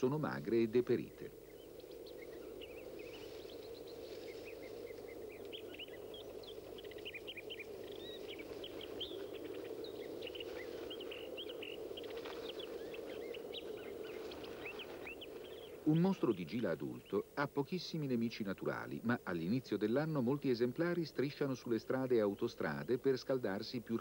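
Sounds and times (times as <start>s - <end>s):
low background rush: 0.0s - 24.0s
small birds chirping: 0.0s - 24.0s.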